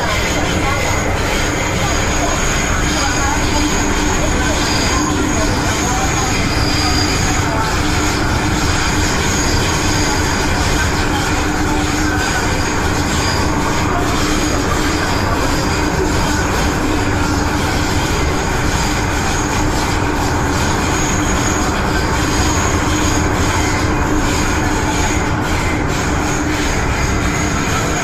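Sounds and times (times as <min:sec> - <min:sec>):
high-pitched whine: 0:00.0 - 0:28.0
train rumbling in tunnel: 0:00.0 - 0:28.0.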